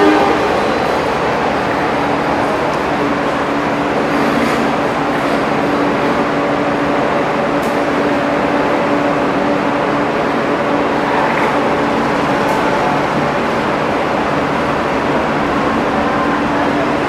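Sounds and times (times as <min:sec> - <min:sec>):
train running drone: 0:00.0 - 0:17.0.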